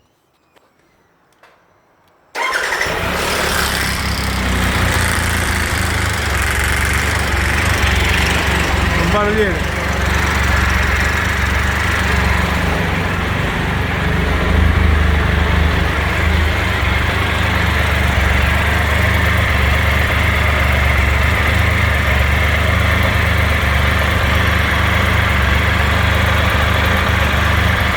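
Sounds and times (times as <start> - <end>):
motorcycle engine idling: 2.4 - 27.9.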